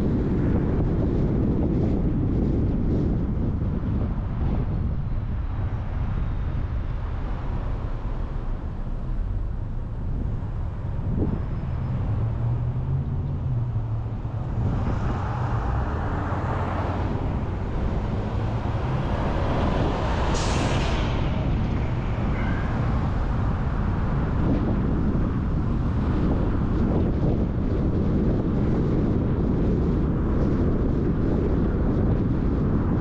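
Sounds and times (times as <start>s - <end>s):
car tyres and engine rumble: 0.0s - 33.0s
rush of traffic: 0.0s - 33.0s.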